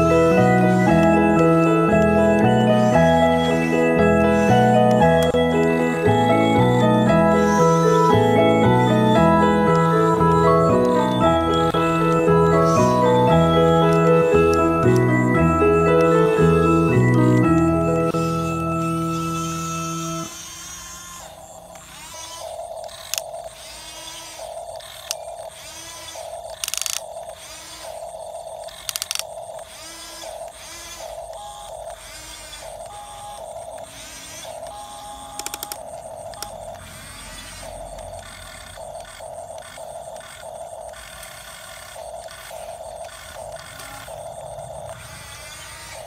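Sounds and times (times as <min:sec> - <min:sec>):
clicks: 0:00.0 - 0:20.3, 0:28.7 - 0:45.3
toy electric motors whining: 0:00.0 - 0:46.0.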